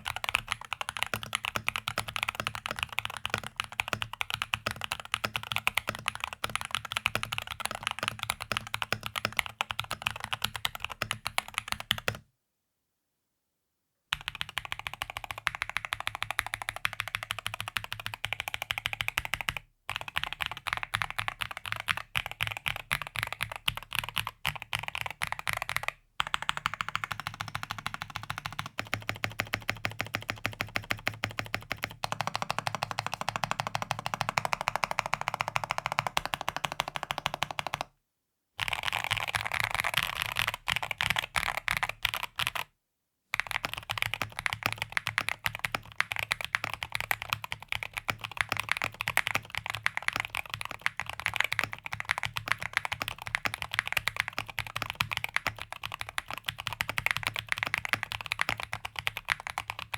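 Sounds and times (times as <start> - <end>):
fast typing on mechanical keyboard: 0.0 - 12.2, 14.2 - 37.9, 38.6 - 42.7, 43.4 - 59.9.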